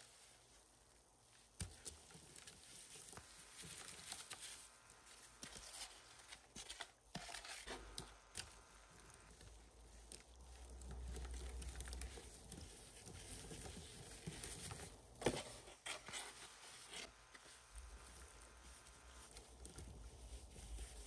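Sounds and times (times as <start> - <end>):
powder pattering onto wet sponges: 0.1 - 15.6, 17.0 - 21.0.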